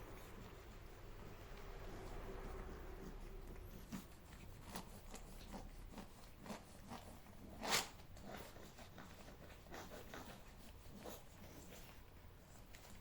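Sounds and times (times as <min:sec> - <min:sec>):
cats licking and eating: 0:00.0 - 0:13.0.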